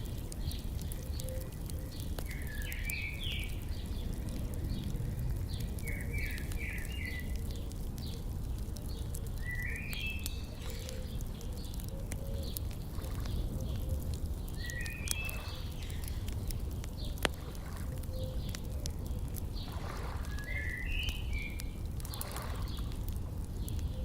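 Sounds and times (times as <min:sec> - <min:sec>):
birds singing: 0:00.0 - 0:24.0
wood fire crackling: 0:00.0 - 0:24.0.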